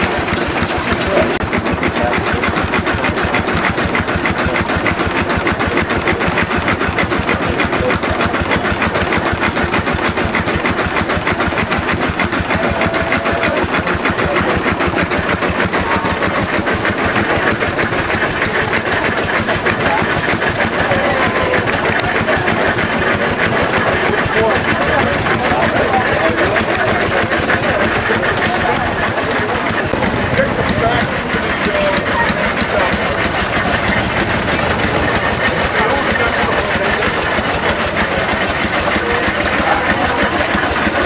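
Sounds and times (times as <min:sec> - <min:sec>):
steam engine running: 0:00.0 - 0:41.0.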